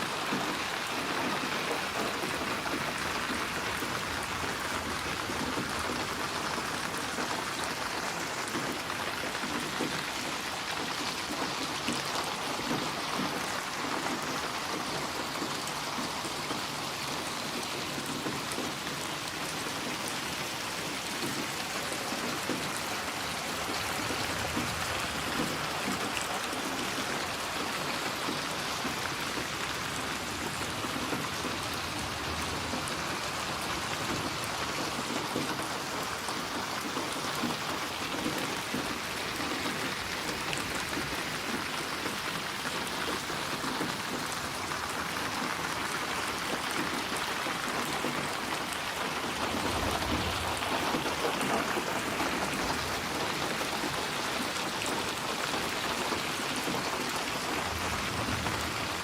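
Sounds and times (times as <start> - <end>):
rain pattering on surfaces: 0.0 - 59.0.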